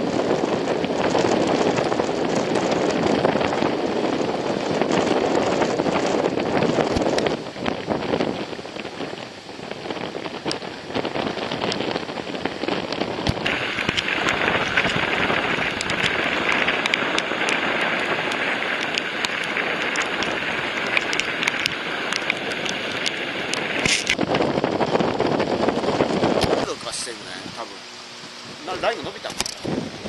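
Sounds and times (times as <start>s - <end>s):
rain falling: 0.0s - 9.2s, 9.8s - 26.4s.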